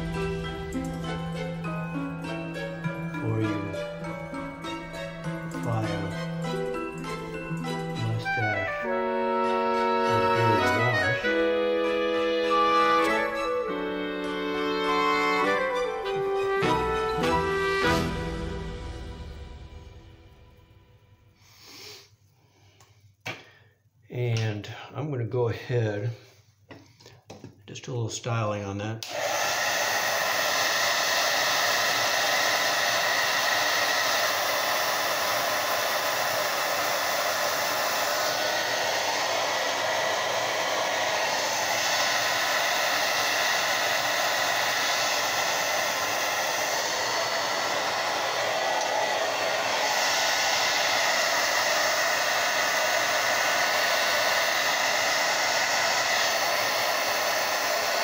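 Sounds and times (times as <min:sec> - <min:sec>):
hair dryer blowing: 0:00.0 - 0:20.7, 0:29.0 - 0:58.0.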